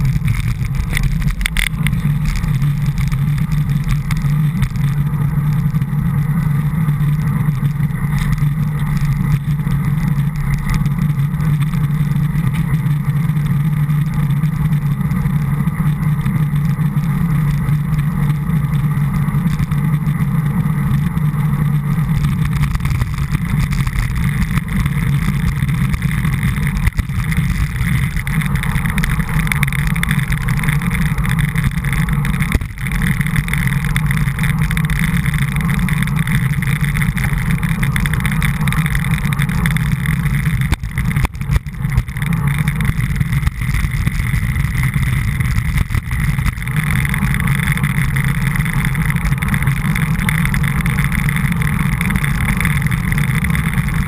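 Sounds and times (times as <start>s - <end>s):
road vibration: 0.0s - 54.0s
wind rumble: 0.0s - 54.0s.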